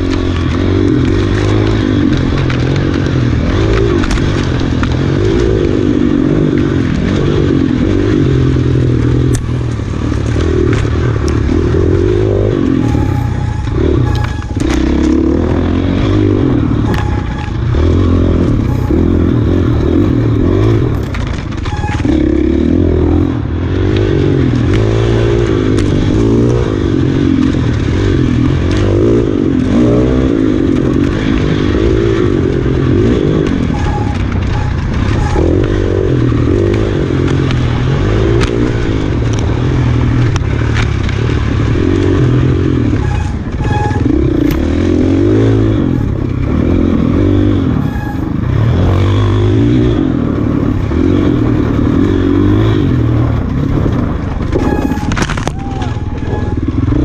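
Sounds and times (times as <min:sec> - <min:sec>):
bike rattling and scraping: 0:00.0 - 0:57.0
dirt bike engine revving: 0:00.0 - 0:57.0.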